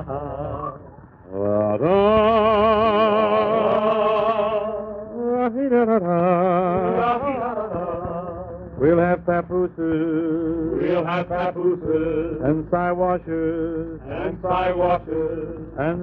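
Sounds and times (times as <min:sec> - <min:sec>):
man singing with vibrato: 0:00.0 - 0:16.0
quiet low accompaniment: 0:00.0 - 0:16.0.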